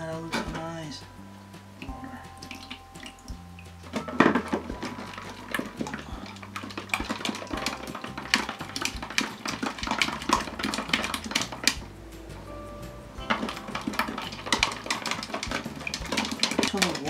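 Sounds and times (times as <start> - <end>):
slime squelching: 1.8 - 17.0.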